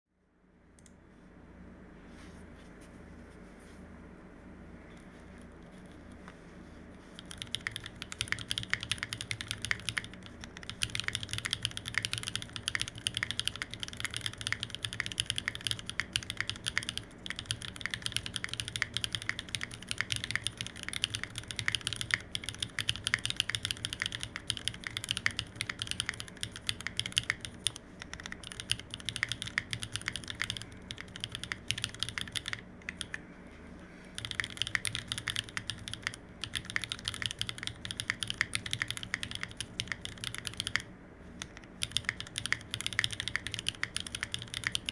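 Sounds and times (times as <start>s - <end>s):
fast mechanical keyboard typing: 7.0s - 33.2s, 34.1s - 44.9s.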